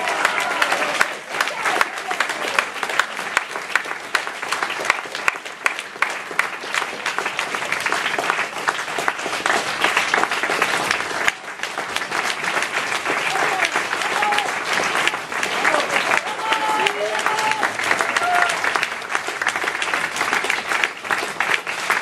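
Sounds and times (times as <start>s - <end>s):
audience applause: 0.0s - 22.0s.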